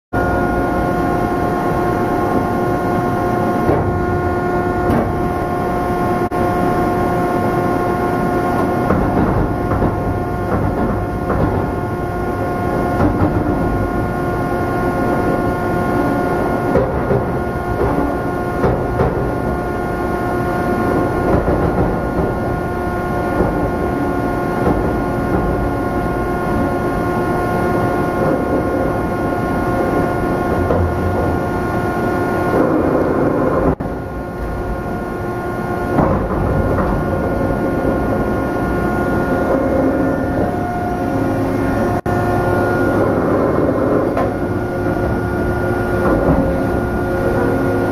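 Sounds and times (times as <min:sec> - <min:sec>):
loud steady machine hum: 0:00.1 - 0:47.9.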